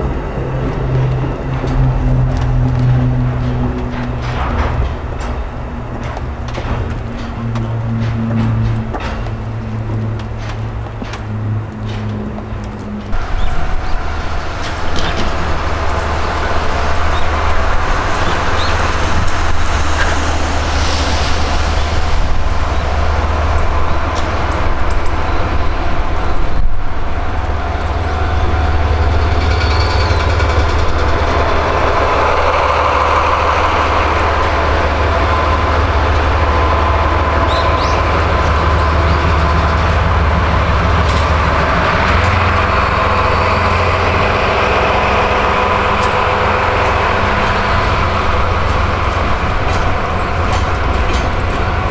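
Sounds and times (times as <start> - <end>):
diesel locomotive engine drone: 0.0 - 51.9.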